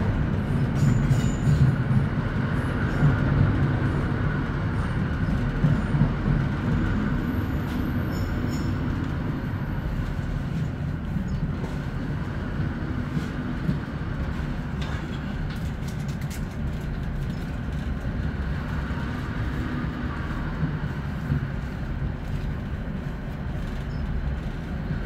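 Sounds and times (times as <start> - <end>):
diesel train engine rumble: 0.0 - 25.0.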